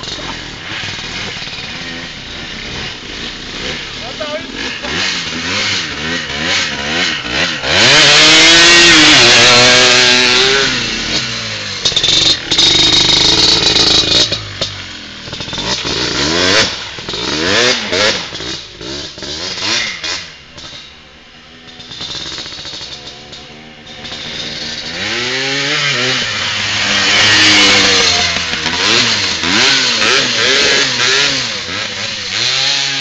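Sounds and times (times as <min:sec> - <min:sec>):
quad bike engine revving: 0:00.0 - 0:33.0.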